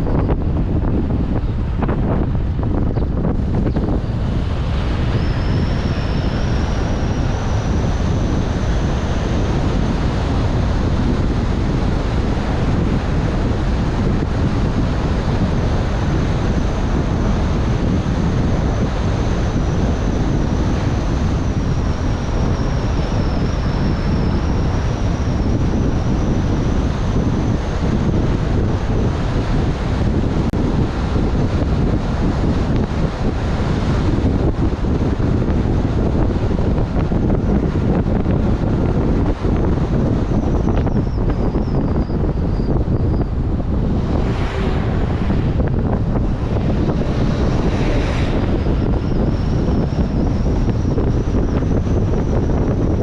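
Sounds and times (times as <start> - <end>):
car road noise: 0.0 - 53.0
wind buffeting microphone: 0.0 - 53.0
faint thin high whine: 2.9 - 30.4, 37.2 - 53.0.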